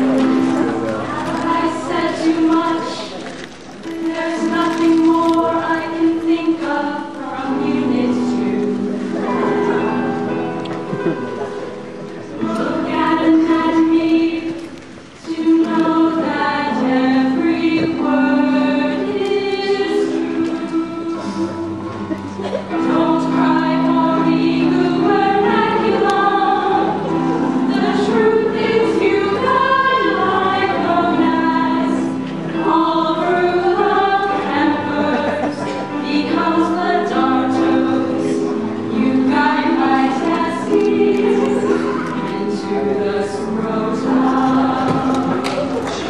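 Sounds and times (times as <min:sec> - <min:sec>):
women singing in harmony: 0:00.0 - 0:03.3, 0:03.9 - 0:10.0, 0:12.3 - 0:46.0.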